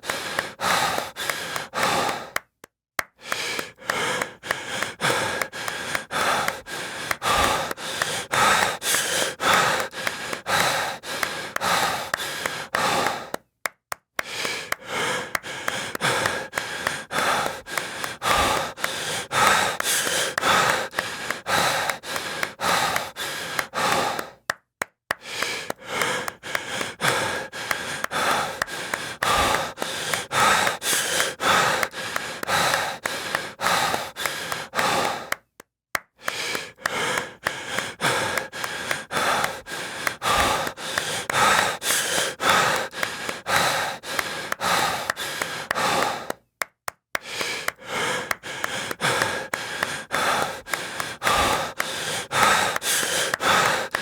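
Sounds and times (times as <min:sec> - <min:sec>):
person panting heavily: 0:00.0 - 0:13.5, 0:14.2 - 0:35.6, 0:36.2 - 0:46.5, 0:47.2 - 0:54.0.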